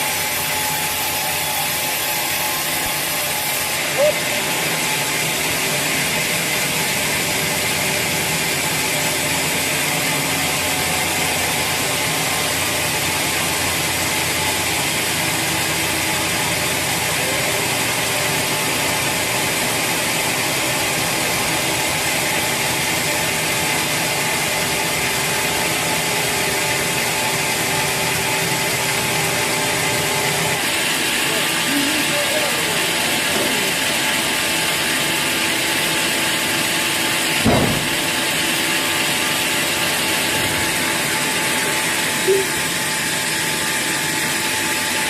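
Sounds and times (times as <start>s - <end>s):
sawmill machinery running: 0.0s - 45.0s.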